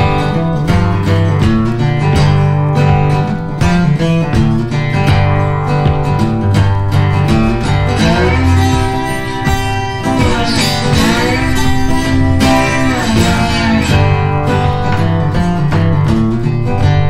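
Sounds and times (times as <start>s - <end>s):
country acoustic guitar music: 0.0s - 17.0s.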